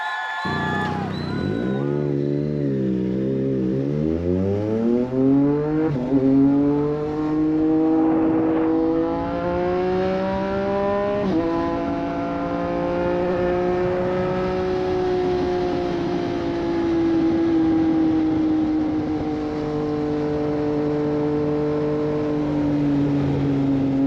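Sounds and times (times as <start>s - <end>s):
motorcycle engine accelerating: 0.4s - 24.0s.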